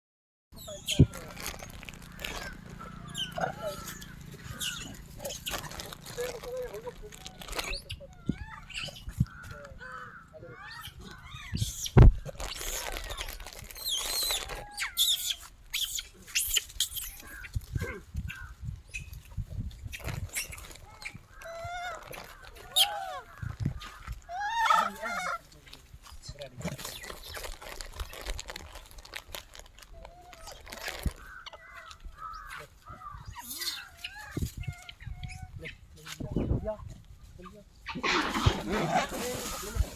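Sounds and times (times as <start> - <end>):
animal chirping and squawking: 0.6 - 25.4, 30.0 - 35.8, 37.8 - 39.9.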